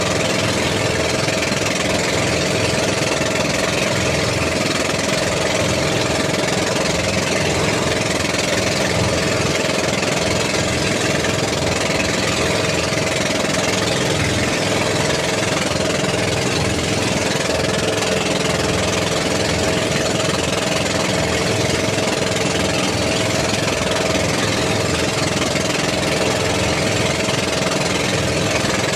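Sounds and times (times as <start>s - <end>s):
baler engine running: 0.0s - 28.9s.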